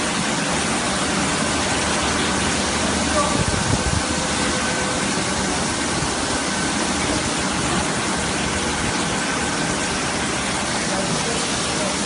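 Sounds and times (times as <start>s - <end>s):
carpet washing machine running: 0.0s - 12.0s.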